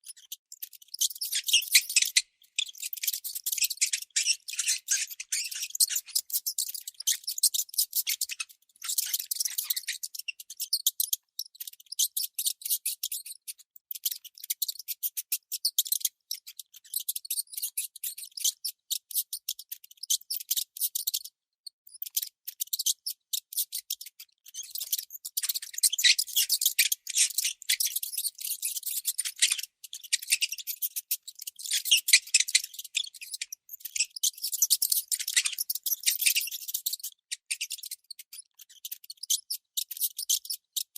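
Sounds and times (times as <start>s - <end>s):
baby mouse squeaking: 0.0s - 40.9s.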